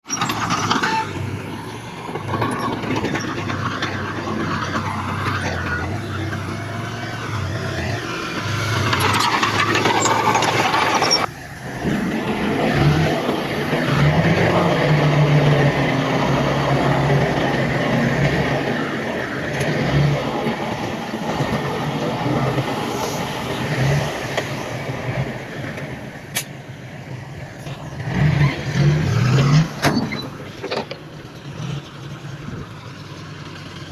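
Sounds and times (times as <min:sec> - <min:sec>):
heavy diesel engines working: 0:00.0 - 0:33.9.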